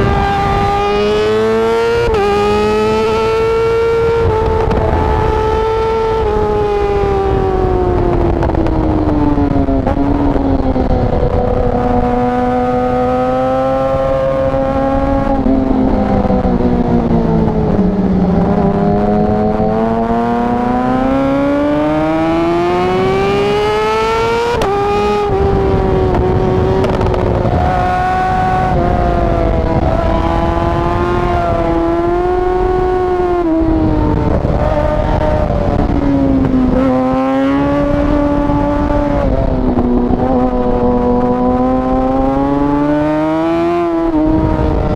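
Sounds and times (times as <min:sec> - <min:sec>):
motorcycle engine revving: 0:00.0 - 0:44.9
steady rushing noise: 0:00.0 - 0:44.9.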